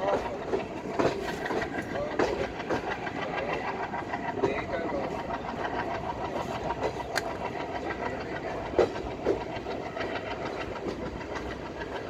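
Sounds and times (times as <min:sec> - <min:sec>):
train rumbling and rattling: 0:00.0 - 0:12.0
wheels clacking over rail joints: 0:00.0 - 0:12.0.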